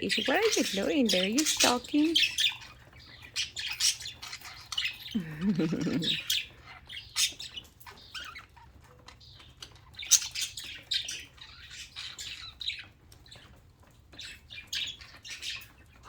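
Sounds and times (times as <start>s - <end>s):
budgerigars squawking and chirping: 0.0s - 16.0s.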